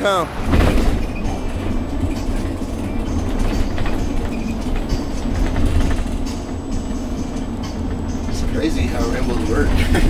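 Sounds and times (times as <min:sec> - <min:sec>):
vehicle road rumble: 0:00.0 - 0:10.0.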